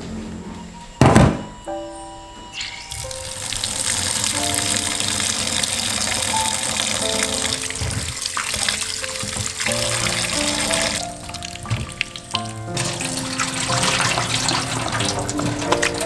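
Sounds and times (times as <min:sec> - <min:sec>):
soft background music: 0:00.0 - 0:16.0
tap water running into a bowl: 0:02.9 - 0:16.0.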